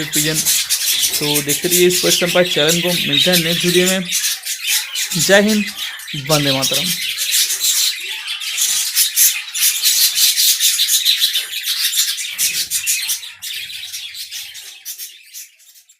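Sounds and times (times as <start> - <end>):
budgerigars chattering: 0.0 - 15.9.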